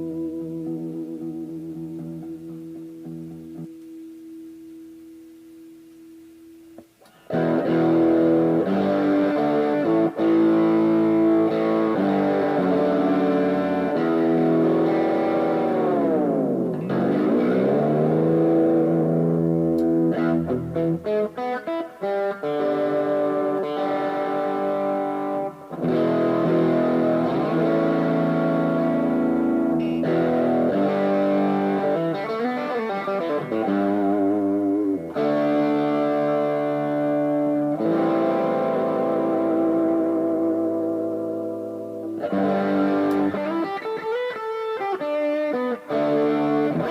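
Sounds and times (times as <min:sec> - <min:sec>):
electric guitar chords: 0:00.0 - 0:46.9.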